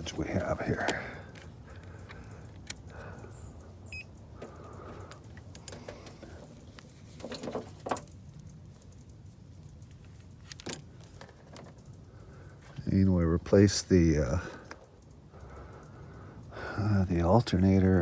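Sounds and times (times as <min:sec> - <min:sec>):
multimeter leads clicking and rustling: 0:00.0 - 0:16.0
low steady hum: 0:00.0 - 0:18.0.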